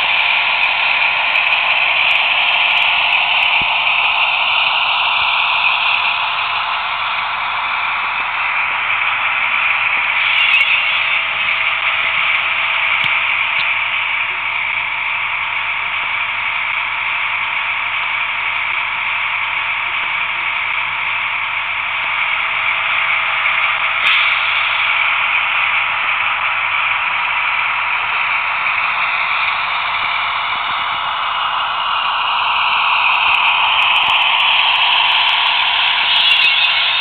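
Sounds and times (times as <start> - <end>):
tinny diesel engine sound: 0.0 - 37.0.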